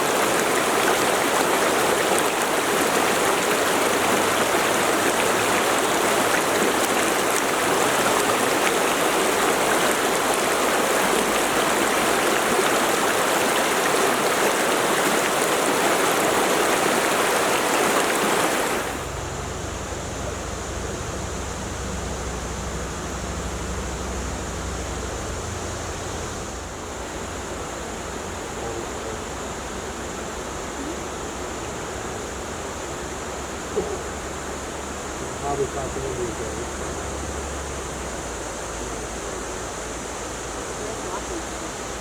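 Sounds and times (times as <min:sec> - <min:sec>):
stream rushing over rocks: 0:00.0 - 0:19.2, 0:27.0 - 0:42.0.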